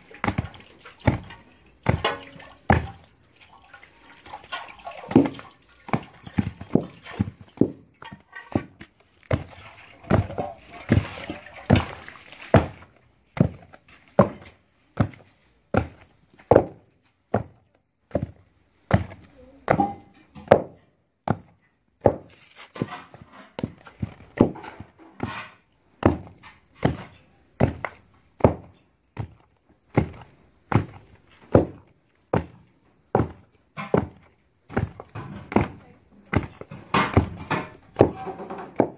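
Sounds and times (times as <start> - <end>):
pestle pounding in wooden mortar: 0.0 - 3.0, 4.3 - 38.9.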